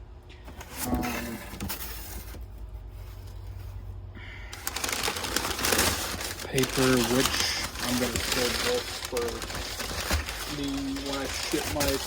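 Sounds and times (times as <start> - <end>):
low steady hum: 0.0 - 12.0
paper and plastic rustling: 0.5 - 3.8, 4.5 - 12.0.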